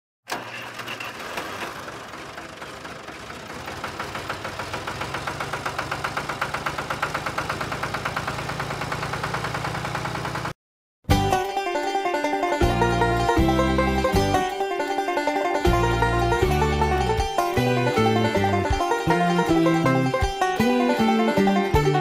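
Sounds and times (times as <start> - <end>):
tractor engine running: 0.3 - 22.0.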